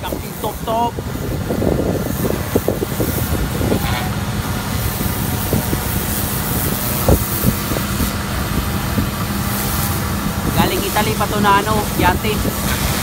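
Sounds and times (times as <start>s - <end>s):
pressure washer motor drone: 0.0s - 13.0s
water jet hissing: 0.0s - 13.0s.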